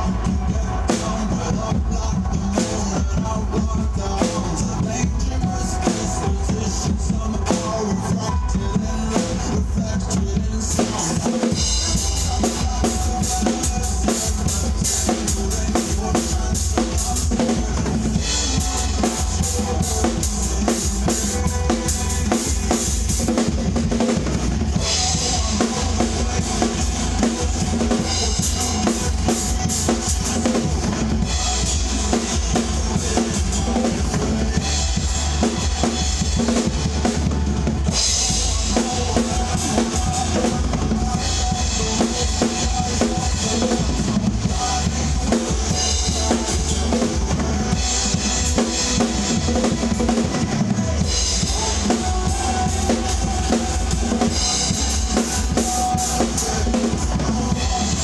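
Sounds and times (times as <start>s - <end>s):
drum kit playing: 0.0s - 58.0s
musical backing: 0.0s - 58.0s.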